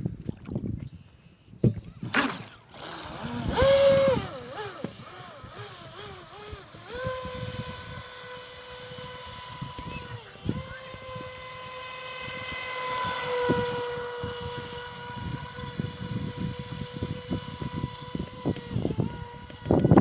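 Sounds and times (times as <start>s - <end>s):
speedboat electric motor whining: 1.8s - 20.0s.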